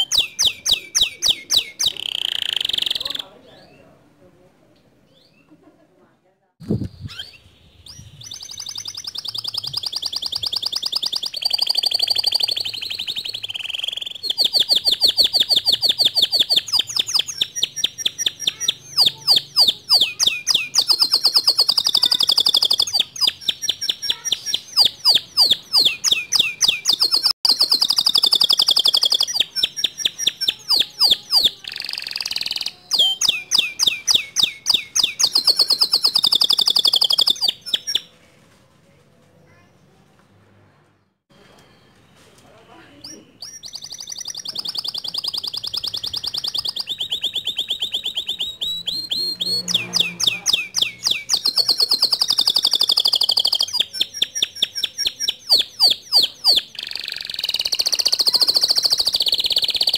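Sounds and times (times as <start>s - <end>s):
canary singing trills: 0.0s - 4.0s, 6.7s - 38.2s, 41.6s - 59.9s.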